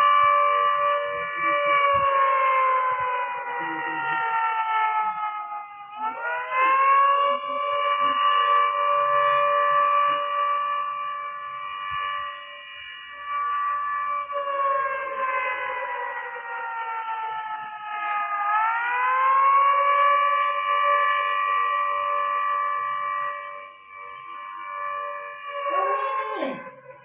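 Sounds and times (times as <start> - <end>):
siren wailing: 0.0 - 27.0.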